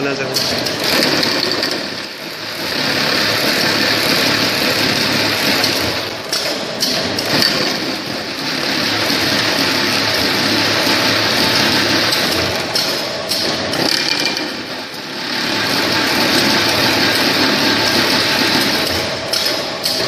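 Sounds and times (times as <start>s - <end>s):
machinery whirring and rattling: 0.0s - 20.0s.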